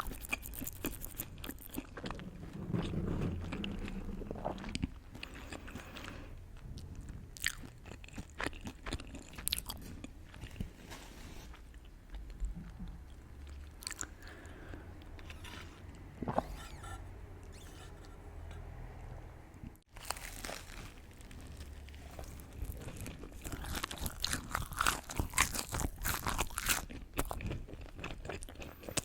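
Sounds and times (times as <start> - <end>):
person chewing crunchy food: 0.0 - 10.6, 11.7 - 16.8, 19.9 - 29.0.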